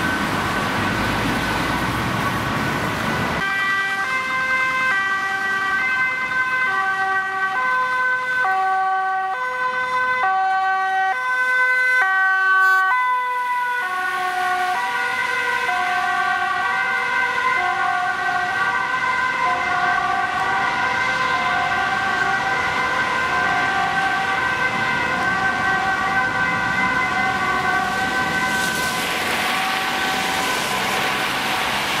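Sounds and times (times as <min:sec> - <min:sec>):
ambulance two-tone siren: 0:00.0 - 0:01.6, 0:03.4 - 0:32.0
traffic and tyres on wet road: 0:00.0 - 0:32.0.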